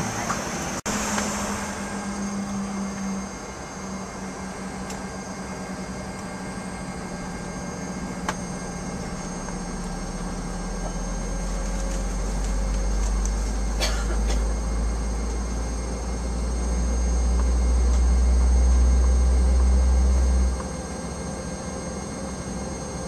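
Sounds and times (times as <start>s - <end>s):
deep rumble: 0.0s - 20.7s
aircraft engine hum: 0.0s - 23.0s.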